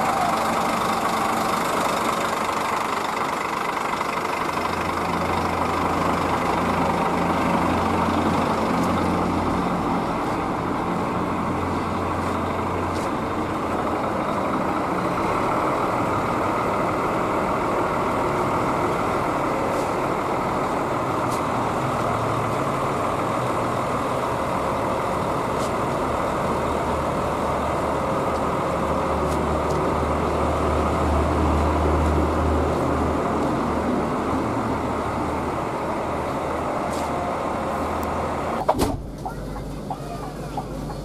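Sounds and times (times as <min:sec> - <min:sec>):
bus engine rumble: 0:00.0 - 0:41.0.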